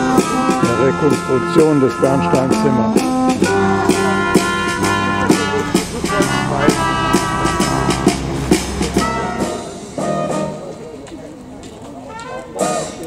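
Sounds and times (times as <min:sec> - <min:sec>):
drum beat: 0:00.0 - 0:10.5
tuba bass line: 0:00.0 - 0:10.9, 0:12.4 - 0:13.0
brass band playing: 0:00.0 - 0:11.0, 0:12.0 - 0:13.0.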